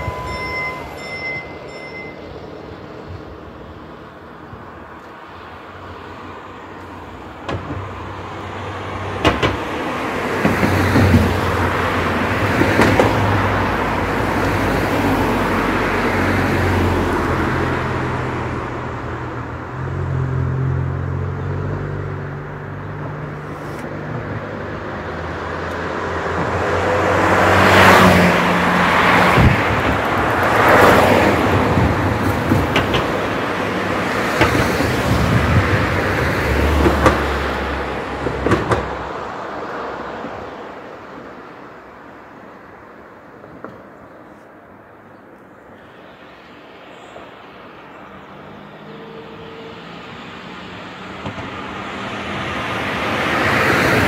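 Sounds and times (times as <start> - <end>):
traffic noise: 0.0 - 54.0.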